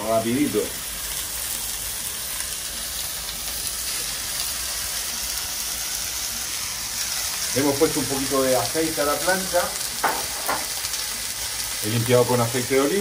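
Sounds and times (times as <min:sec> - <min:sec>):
meat sizzling on griddle: 0:00.0 - 0:13.0.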